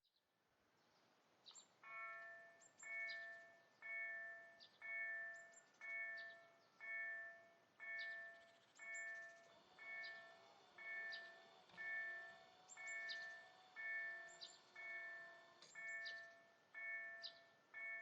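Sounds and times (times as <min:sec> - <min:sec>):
bird chirps: 0:01.4 - 0:11.4, 0:12.1 - 0:18.0
level-crossing warning bell: 0:01.8 - 0:18.0.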